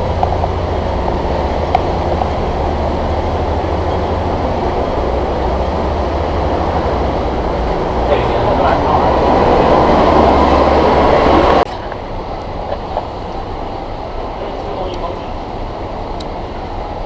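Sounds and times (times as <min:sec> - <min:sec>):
vehicle rumble from inside: 0:00.0 - 0:17.0.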